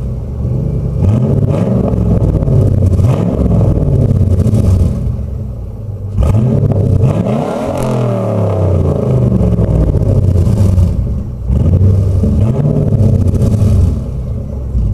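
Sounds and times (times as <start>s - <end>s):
car engine revving: 0.0s - 14.9s.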